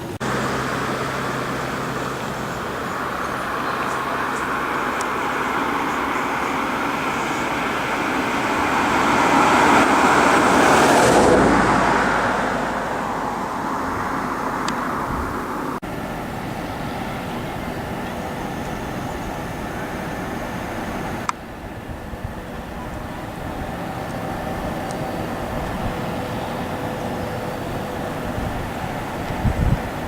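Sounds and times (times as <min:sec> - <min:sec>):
cars passing: 0:00.0 - 0:30.0
vehicle passing: 0:00.0 - 0:30.0.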